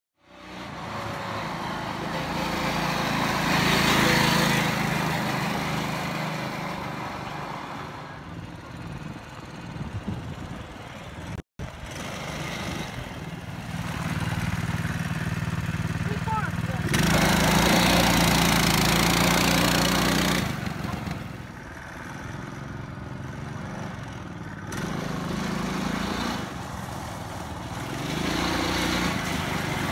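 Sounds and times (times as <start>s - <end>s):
small atv engine running: 0.3s - 29.9s.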